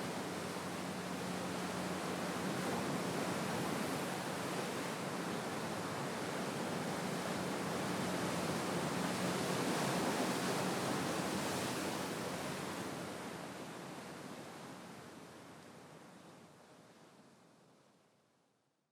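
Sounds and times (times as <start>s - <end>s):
sea waves washing ashore: 0.0s - 16.2s.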